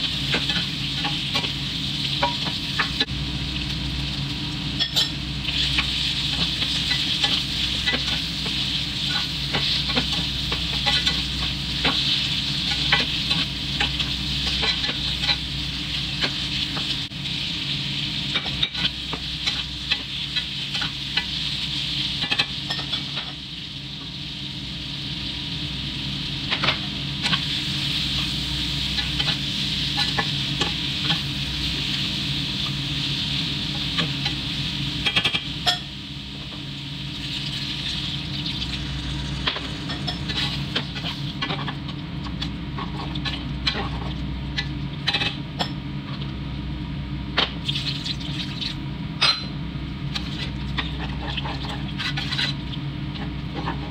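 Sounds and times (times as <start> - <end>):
food sizzling in a wok: 0.0 - 46.0, 46.9 - 48.8.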